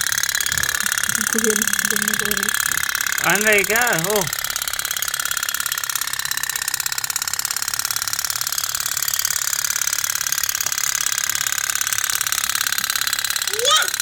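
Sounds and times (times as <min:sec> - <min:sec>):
toy steam boat puttering: 0:00.0 - 0:14.0.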